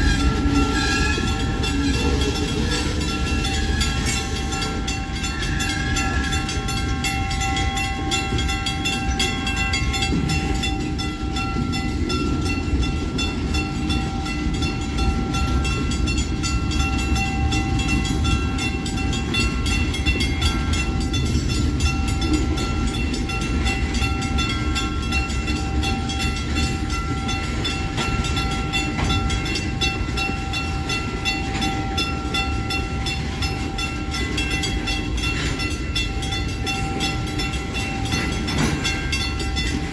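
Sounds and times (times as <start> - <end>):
crossing warning bell ringing: 0.0 - 39.9
freight train rumbling: 0.0 - 39.9.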